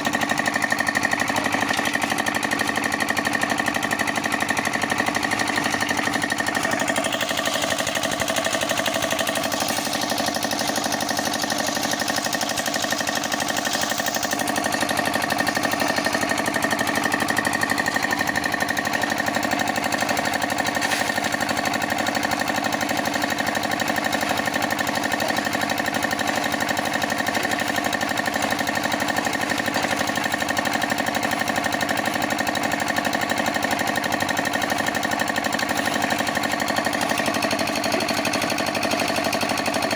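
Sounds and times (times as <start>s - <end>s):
concrete mixer running: 0.0s - 39.9s.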